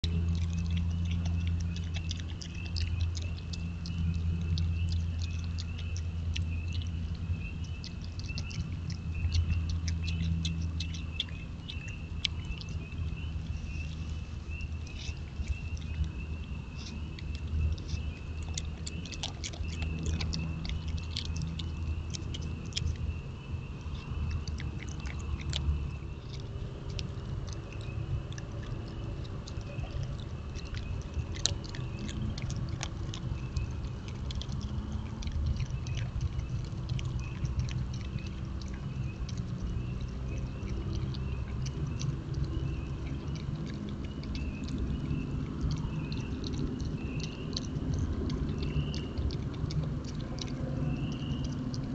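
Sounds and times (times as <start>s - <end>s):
animal chewing and crunching food: 0.0s - 51.9s.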